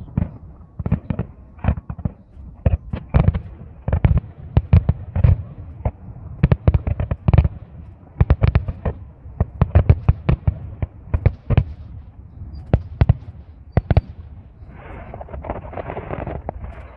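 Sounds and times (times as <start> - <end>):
fireworks bangs and cracks: 0.0 - 16.9.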